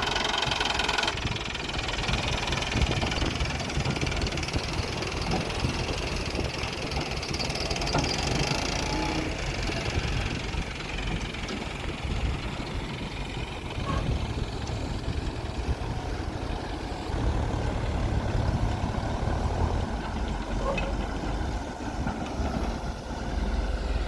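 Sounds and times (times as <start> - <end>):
heavy diesel engine running: 0.0 - 24.0
deep loud rumble: 1.1 - 24.0.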